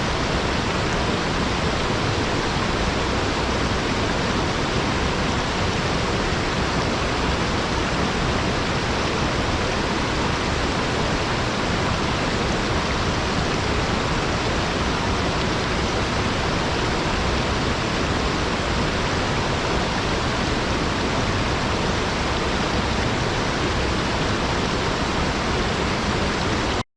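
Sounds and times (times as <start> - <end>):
waterfall rushing: 0.0 - 26.8.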